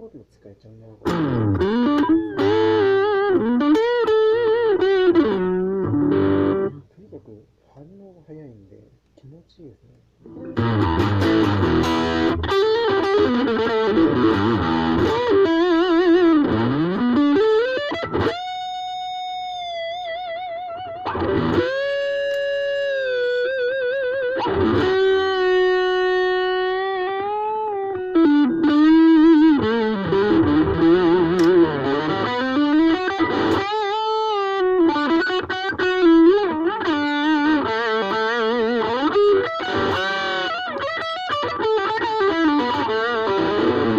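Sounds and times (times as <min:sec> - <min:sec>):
distorted electric guitar lead: 0:01.0 - 0:06.8, 0:10.2 - 0:43.9.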